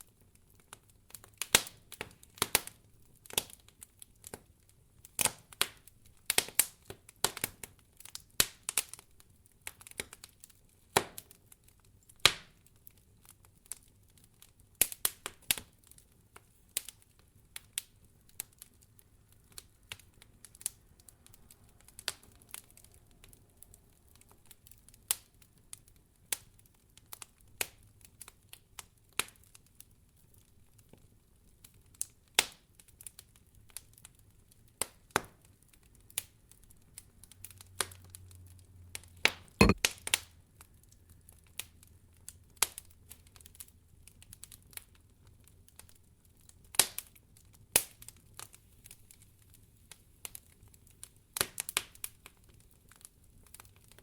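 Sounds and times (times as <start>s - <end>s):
wood fire crackling: 0.0s - 38.2s, 40.6s - 54.0s.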